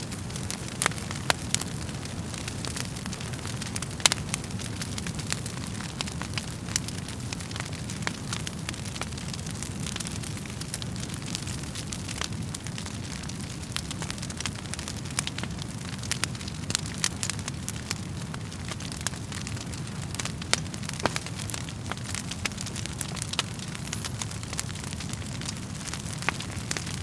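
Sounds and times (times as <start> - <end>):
fire snapping and popping: 0.0 - 27.0
low rumble of flames: 0.0 - 27.0.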